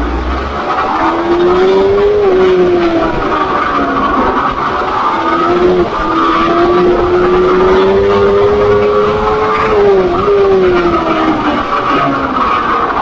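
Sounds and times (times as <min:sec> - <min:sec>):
other bike engines running: 0:00.0 - 0:13.0
pit bike engine revving: 0:00.0 - 0:13.0.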